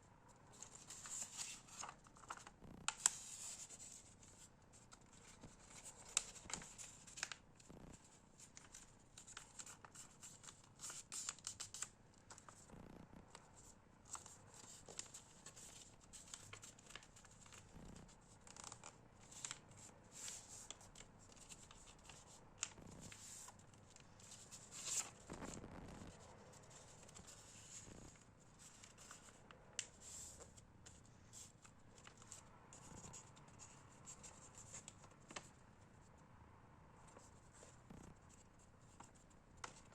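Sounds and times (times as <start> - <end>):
paper rustling and crinkling: 0.5 - 35.6, 37.0 - 39.9.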